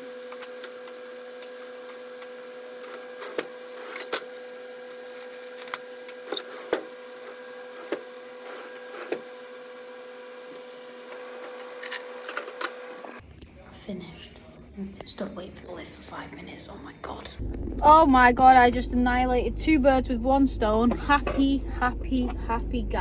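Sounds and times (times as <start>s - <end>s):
vending machine hum: 0.0s - 13.2s, 17.4s - 23.0s.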